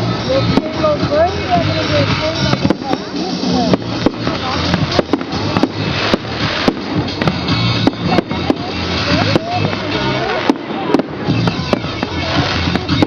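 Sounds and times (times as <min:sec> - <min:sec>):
crowd noise: 0:00.0 - 0:13.0
fireworks bangs and crackles: 0:00.0 - 0:13.0
music: 0:00.0 - 0:13.0.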